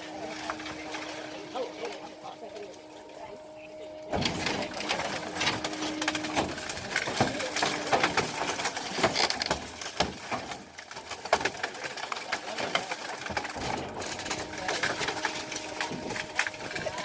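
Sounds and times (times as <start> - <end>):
sheet metal crunching and creaking: 0.0 - 17.0.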